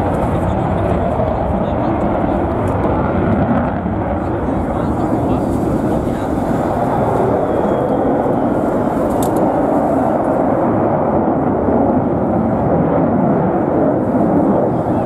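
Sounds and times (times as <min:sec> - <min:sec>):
loud steady jet engine noise: 0:00.0 - 0:15.0.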